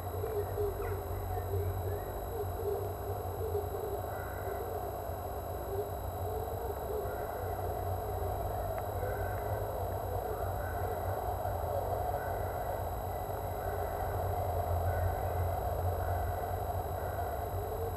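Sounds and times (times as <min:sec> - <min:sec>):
electrical hum and hiss: 0:00.0 - 0:17.9.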